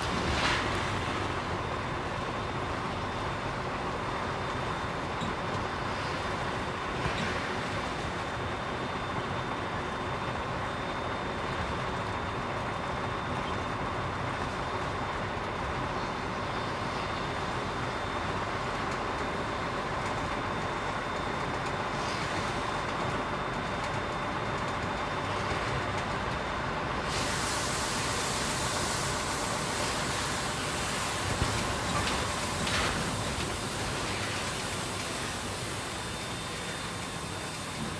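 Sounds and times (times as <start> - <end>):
road noise hiss: 0.0 - 21.1, 21.8 - 23.4, 25.2 - 37.9.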